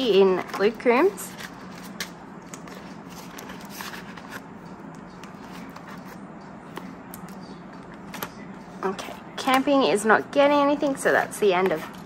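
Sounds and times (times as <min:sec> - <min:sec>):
faint steady hum: 0:00.0 - 0:12.0
plastic pages rustling and tapping: 0:00.4 - 0:09.6, 0:11.6 - 0:12.0.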